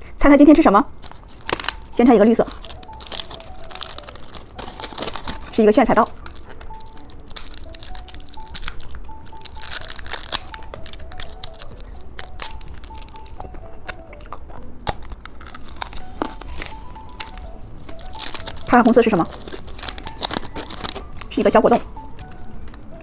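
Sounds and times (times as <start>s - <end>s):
plastic packaging crinkling: 0.9s - 22.4s.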